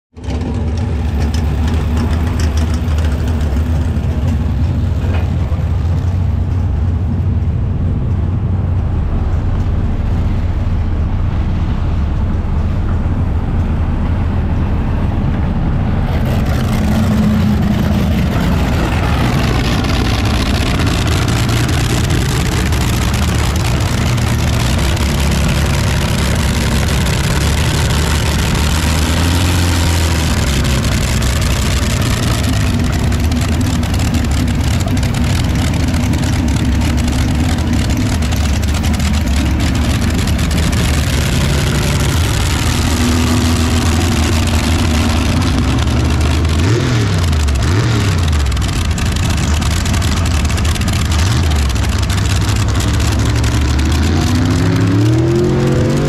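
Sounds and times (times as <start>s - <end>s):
tractor engine running loudly: 0.1s - 56.0s.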